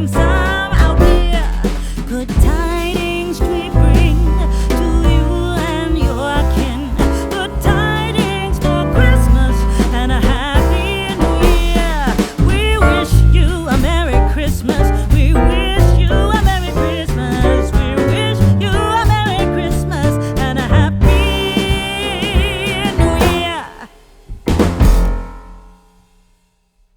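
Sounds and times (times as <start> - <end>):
song with sung vocal and bass: 0.0 - 24.0.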